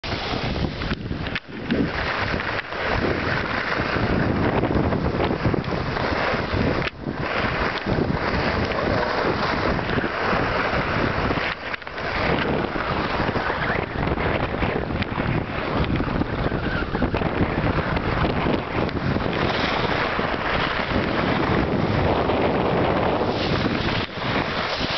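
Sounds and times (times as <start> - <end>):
skis scraping over snow: 0.0 - 24.9
wind rushing over microphone: 0.0 - 24.9.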